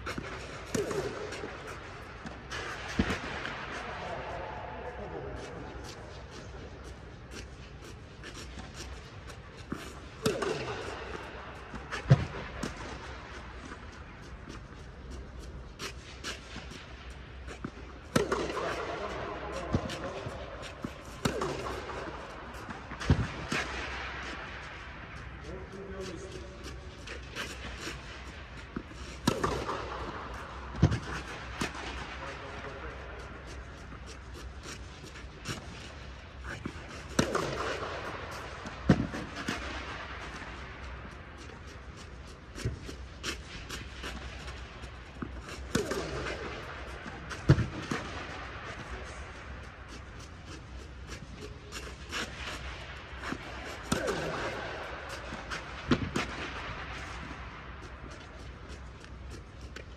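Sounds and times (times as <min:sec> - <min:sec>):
tennis balls bouncing: 0:00.1 - 0:03.9, 0:06.8 - 0:15.4, 0:17.1 - 0:24.1, 0:27.1 - 0:59.9
tennis balls struck by rackets: 0:00.1 - 0:04.3, 0:05.0 - 0:59.9.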